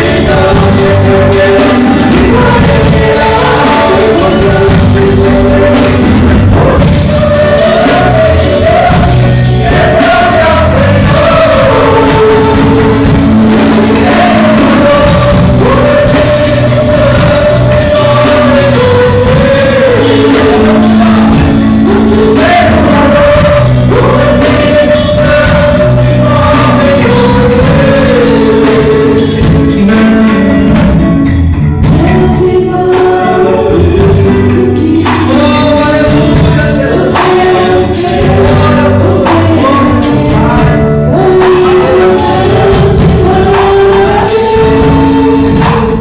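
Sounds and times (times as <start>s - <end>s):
band with bass and guitar: 0.0s - 46.0s
woman singing lead: 0.0s - 46.0s.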